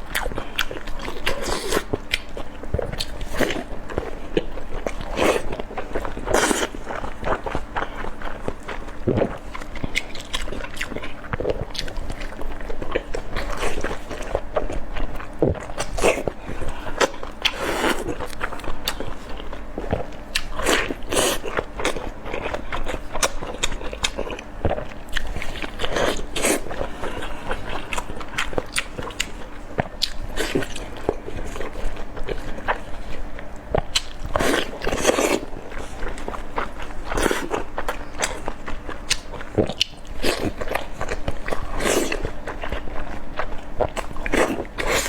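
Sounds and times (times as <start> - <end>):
person chewing food: 0.0 - 45.0.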